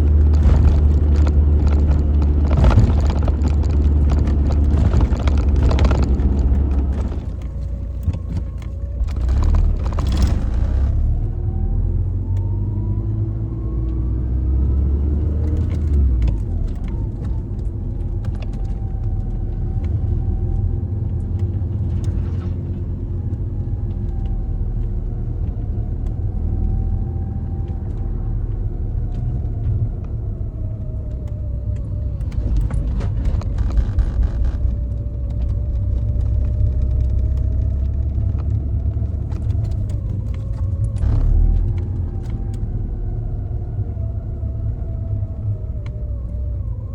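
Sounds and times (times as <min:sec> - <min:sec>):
car engine driving: 0:00.0 - 0:46.9
road rumble: 0:00.0 - 0:46.9.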